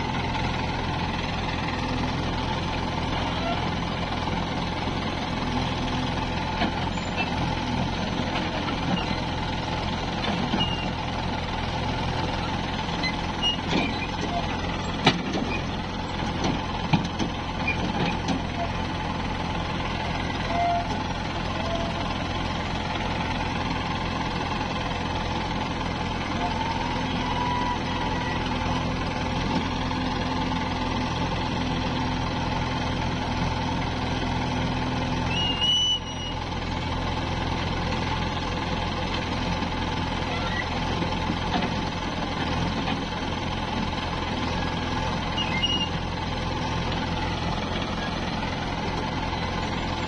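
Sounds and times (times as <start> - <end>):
diesel backhoe engine running: 0.0 - 50.0
tractor engine: 0.0 - 50.0.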